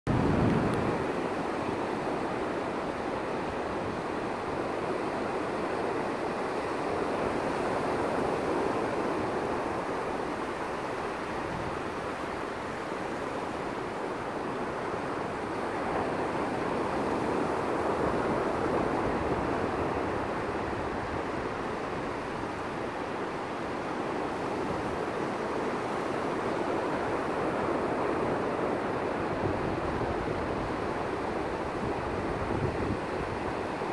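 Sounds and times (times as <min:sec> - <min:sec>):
ocean surf breaking on beach: 0:00.1 - 0:33.9.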